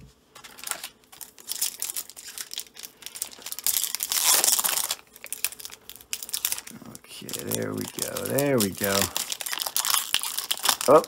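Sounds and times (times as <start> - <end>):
card pack wrapper tearing: 0.4 - 11.0.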